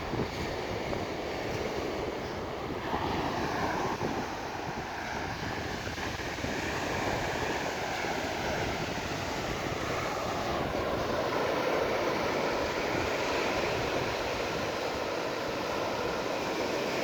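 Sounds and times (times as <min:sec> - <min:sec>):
sea surf: 0:00.0 - 0:17.0
wind on microphone: 0:00.0 - 0:17.0.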